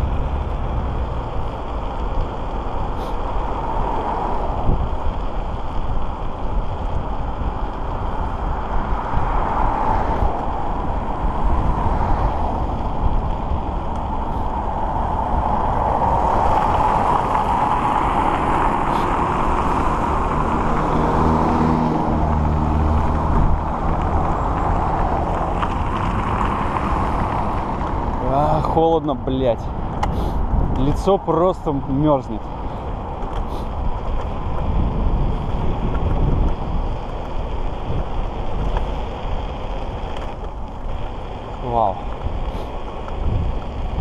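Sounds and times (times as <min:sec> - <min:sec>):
car engine hum: 0:00.0 - 0:44.0
rush of air and tyre noise: 0:00.0 - 0:44.0.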